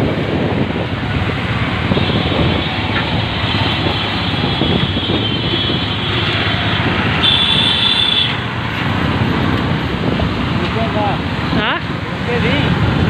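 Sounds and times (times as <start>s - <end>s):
traffic on road bridge: 0.0s - 13.0s.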